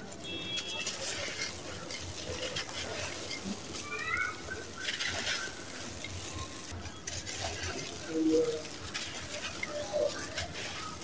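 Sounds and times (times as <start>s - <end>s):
sand grit crumbling in hands: 0.0s - 11.0s.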